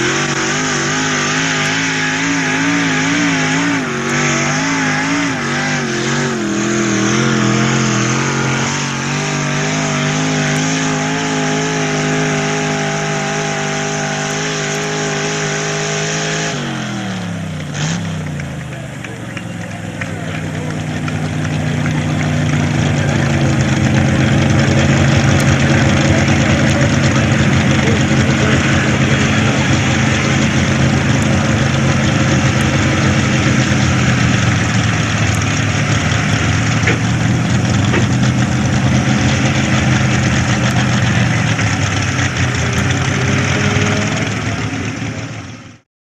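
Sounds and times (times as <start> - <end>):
truck engine running hard: 0.0 - 45.8.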